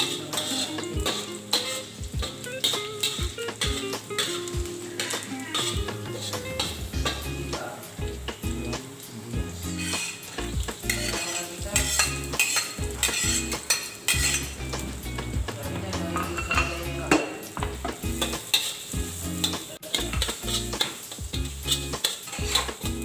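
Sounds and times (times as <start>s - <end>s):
metal spatula scraping a pan: 0.0s - 7.2s, 9.6s - 23.0s
garlic and onion sizzling in a wok: 0.0s - 23.0s.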